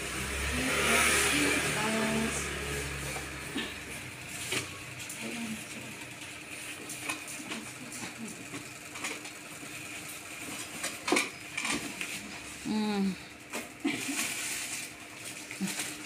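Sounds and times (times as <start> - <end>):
electric fan humming: 0.0 - 16.0.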